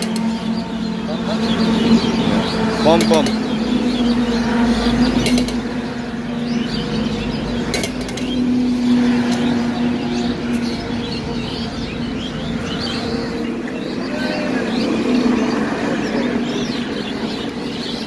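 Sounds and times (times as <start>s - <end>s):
birds chirping: 0.0s - 18.0s
low engine-like hum: 0.0s - 18.0s.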